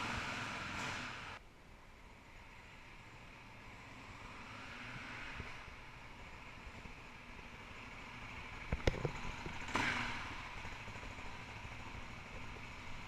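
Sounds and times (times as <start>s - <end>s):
motorcycle engine passing: 0.0s - 1.4s, 2.8s - 13.0s.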